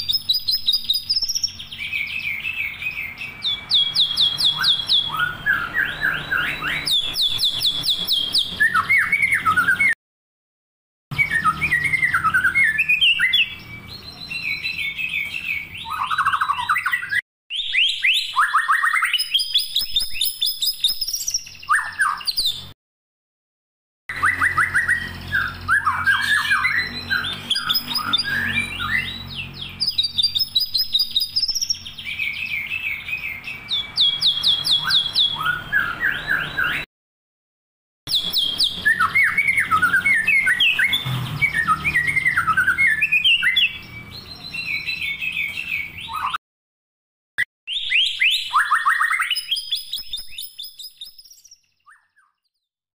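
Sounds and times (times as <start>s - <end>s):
songbird singing trills: 0.0s - 10.0s, 11.1s - 22.7s, 24.1s - 36.8s, 38.1s - 46.4s, 47.7s - 52.7s.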